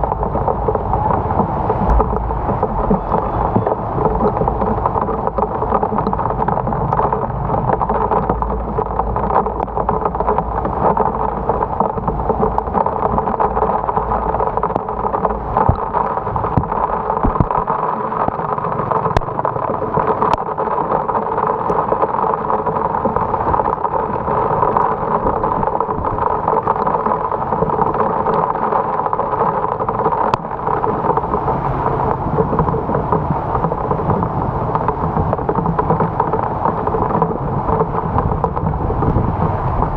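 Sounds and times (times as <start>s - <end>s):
heavy rain falling: 0.0s - 39.9s
motorbike wind and road rumble: 0.0s - 39.9s.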